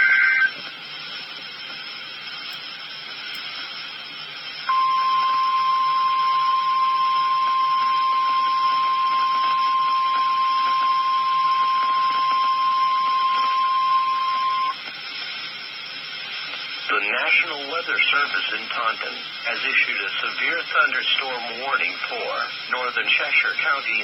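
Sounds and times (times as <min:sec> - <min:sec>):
radio hiss: 0:00.0 - 0:24.0
steady piercing alarm tone: 0:00.0 - 0:24.0.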